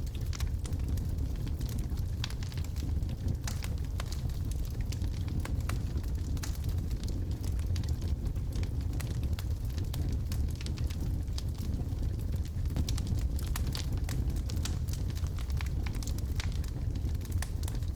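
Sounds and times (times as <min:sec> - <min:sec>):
logs crackling and popping: 0:00.0 - 0:17.9
low rumble of fire: 0:00.0 - 0:17.9.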